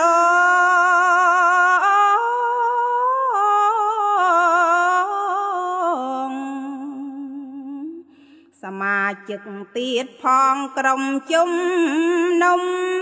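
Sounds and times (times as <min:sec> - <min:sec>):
woman chanting: 0:00.0 - 0:13.0.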